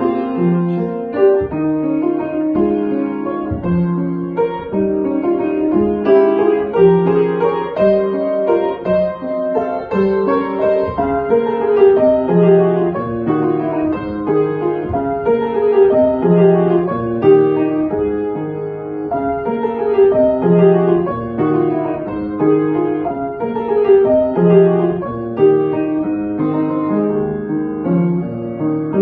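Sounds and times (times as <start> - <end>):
solo piano piece: 0.0 - 29.0.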